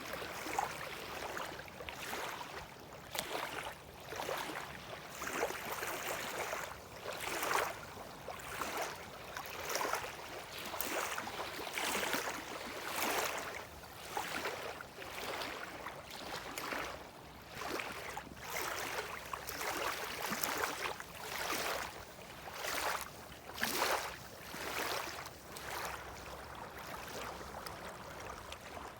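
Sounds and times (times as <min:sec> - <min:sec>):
small waves lapping: 0:00.0 - 0:28.9.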